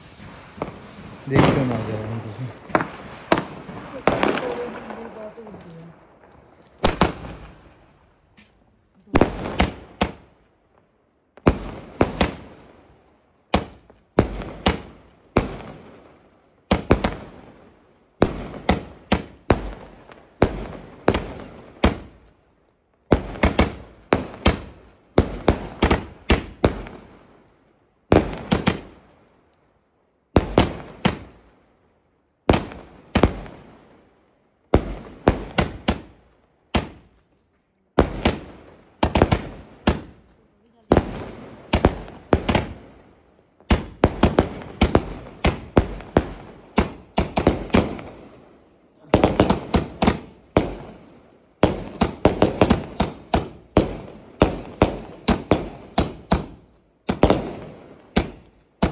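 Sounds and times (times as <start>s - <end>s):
firework bangs: 0.0s - 10.4s, 11.3s - 12.8s, 13.5s - 22.3s, 23.1s - 27.3s, 28.1s - 29.1s, 30.3s - 31.5s, 32.4s - 33.9s, 34.7s - 37.2s, 37.9s - 48.4s, 49.0s - 58.9s.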